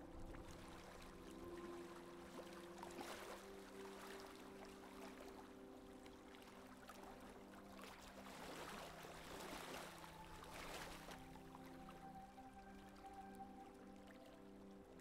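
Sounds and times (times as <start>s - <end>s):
soft music of held notes: 0.0s - 15.0s
water splashing along hull: 0.0s - 15.0s.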